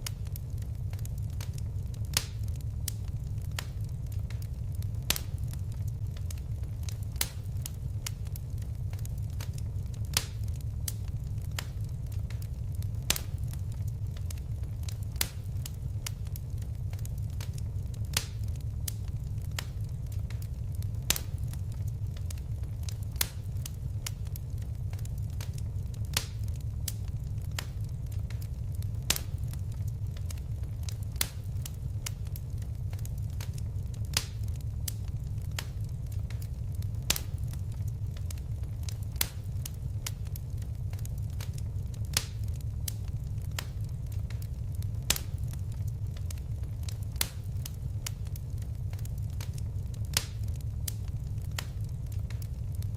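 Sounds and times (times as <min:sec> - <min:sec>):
fire popping and snapping: 0:00.0 - 0:52.9
low rumble of flames: 0:00.0 - 0:52.9.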